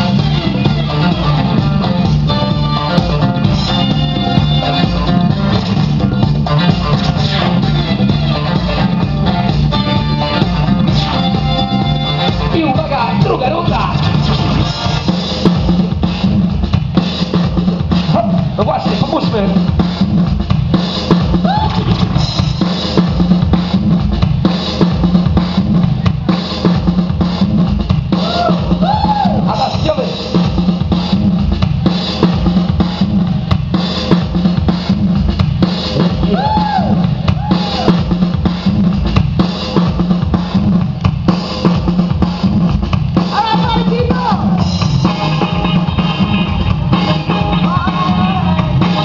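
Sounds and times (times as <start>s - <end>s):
music with heavy drum beat: 0.0s - 49.0s.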